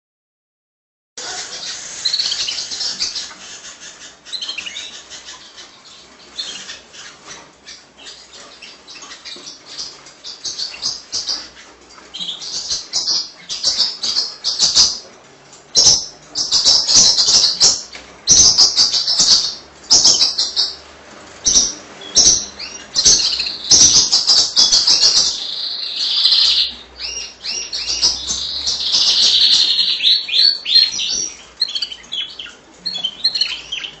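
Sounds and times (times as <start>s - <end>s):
canary singing chirps and trills: 1.2s - 34.0s.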